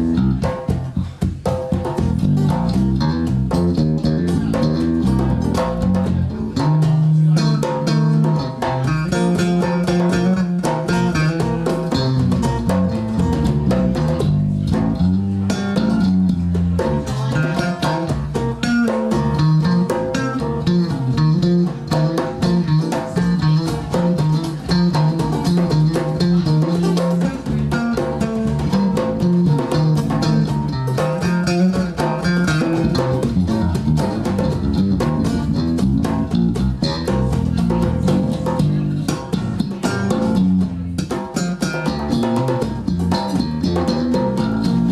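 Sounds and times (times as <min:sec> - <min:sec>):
bass line: 0:00.0 - 0:44.9
blues band playing: 0:00.0 - 0:44.9
drums: 0:00.0 - 0:44.9
electric guitar: 0:00.0 - 0:44.9.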